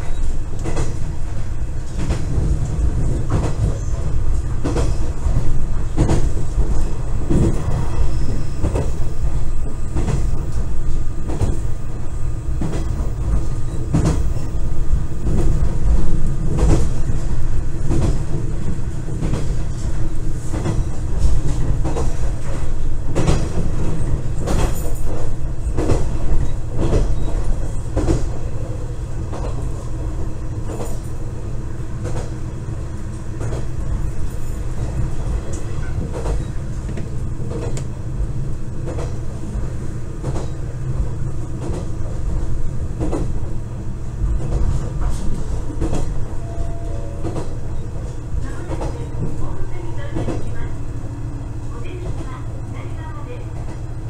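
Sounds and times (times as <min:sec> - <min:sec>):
railcar engine rumble: 0:00.0 - 0:54.0.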